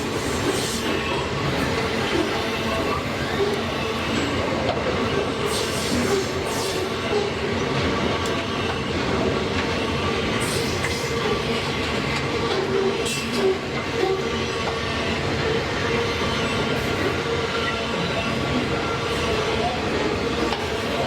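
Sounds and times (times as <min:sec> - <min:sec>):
train wheels squealing: 0:00.0 - 0:21.0.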